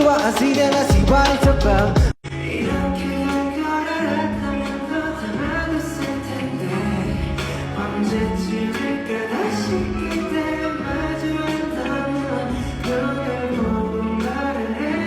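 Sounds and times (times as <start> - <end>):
pop song with held vocals: 0.0 - 15.0.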